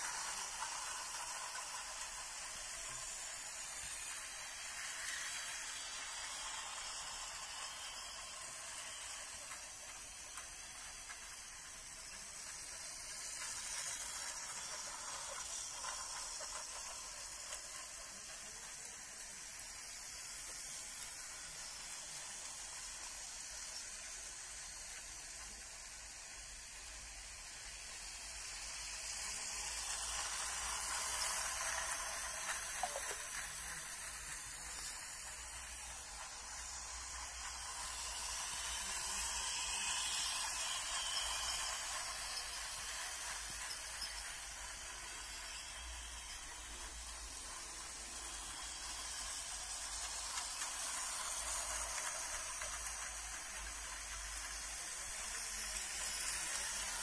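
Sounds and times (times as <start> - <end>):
model train whirring on track: 0.0 - 57.0.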